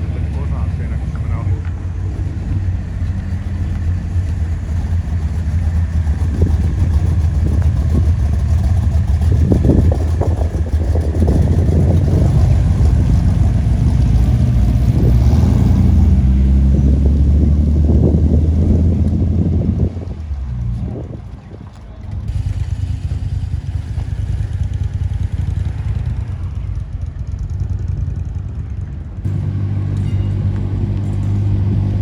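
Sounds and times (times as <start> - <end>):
car engine rumbling: 0.0 - 32.0.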